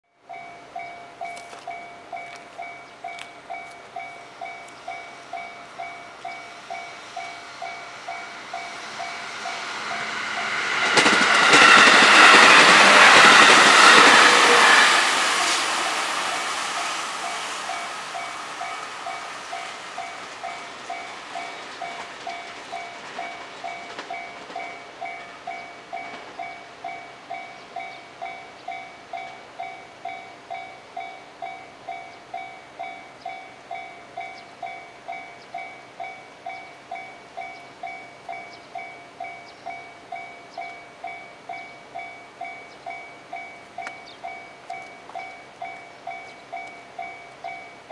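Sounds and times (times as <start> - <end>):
level-crossing warning bell ringing: 0.2 - 47.9
train passing: 0.2 - 47.9.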